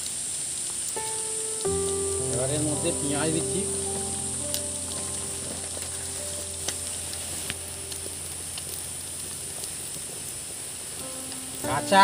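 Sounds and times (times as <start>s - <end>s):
frying sizzle in pan: 0.0s - 12.0s.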